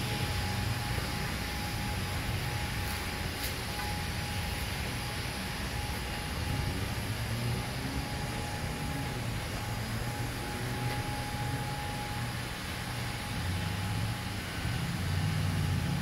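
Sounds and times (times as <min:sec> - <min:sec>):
faint thin whine: 0:00.0 - 0:16.0
steady low hum: 0:00.0 - 0:16.0.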